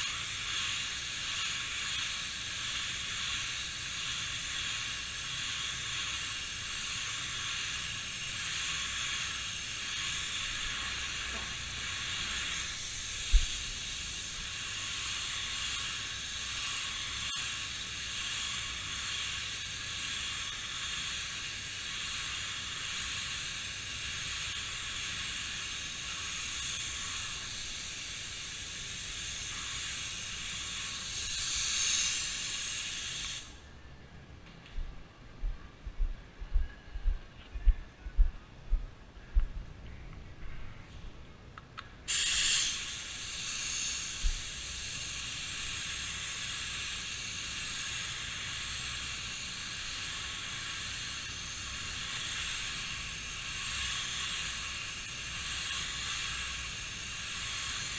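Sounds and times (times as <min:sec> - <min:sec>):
spray gun hissing: 0:00.0 - 0:33.6, 0:42.1 - 0:57.9.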